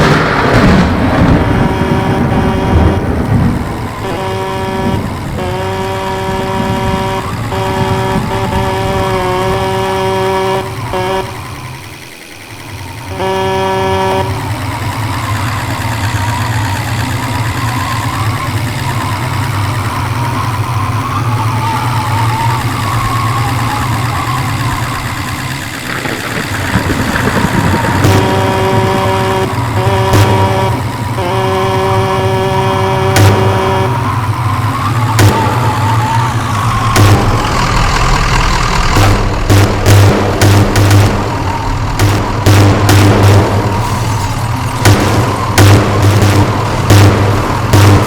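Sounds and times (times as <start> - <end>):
horn long blasts: 0.0 - 48.0
low vehicle rumble: 0.0 - 48.0
rushing noise: 0.0 - 48.0.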